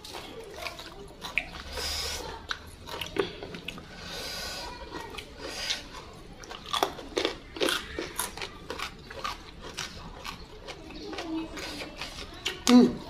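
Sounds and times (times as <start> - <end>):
crunching raw vegetables: 0.0 - 13.0.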